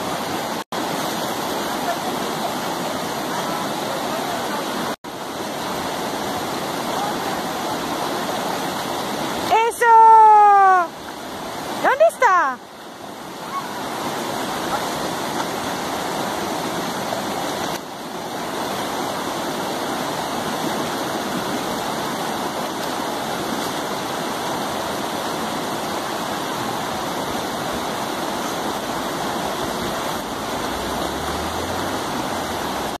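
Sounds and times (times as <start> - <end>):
river rushing over stones: 0.0 - 33.0.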